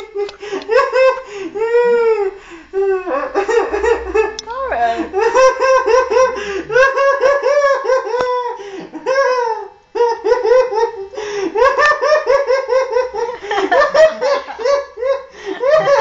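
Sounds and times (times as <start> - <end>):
man laughing hysterically: 0.0 - 16.0.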